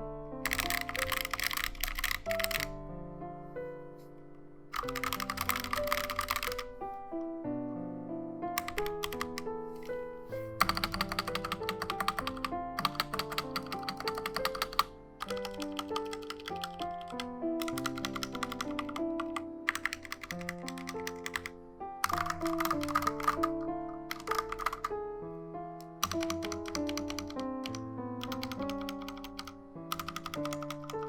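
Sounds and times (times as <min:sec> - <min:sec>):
mechanical keyboard typing: 0:00.4 - 0:02.8, 0:04.7 - 0:06.8, 0:08.6 - 0:10.0, 0:10.6 - 0:25.0, 0:25.8 - 0:31.0.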